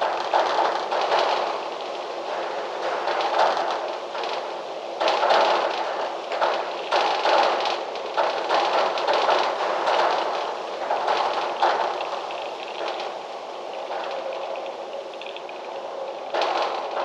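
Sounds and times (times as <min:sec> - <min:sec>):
wind gusting through trees: 0:00.0 - 0:17.0.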